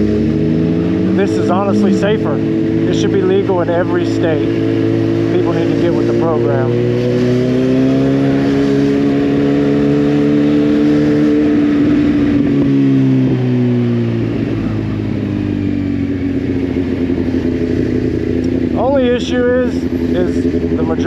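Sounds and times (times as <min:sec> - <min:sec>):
motorcycle engine running steadily: 0:00.0 - 0:21.0.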